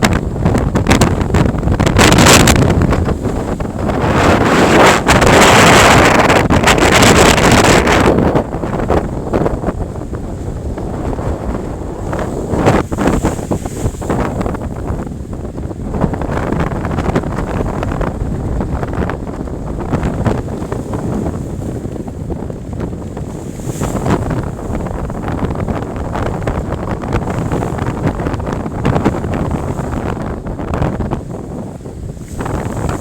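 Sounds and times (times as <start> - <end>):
sea waves washing: 0.0 - 33.0
wind buffeting microphone: 0.0 - 33.0.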